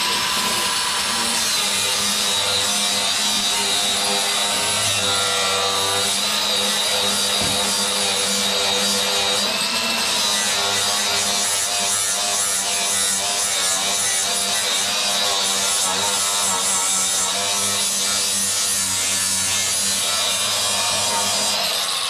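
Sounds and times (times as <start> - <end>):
angle grinder grinding metal: 0.0 - 22.0.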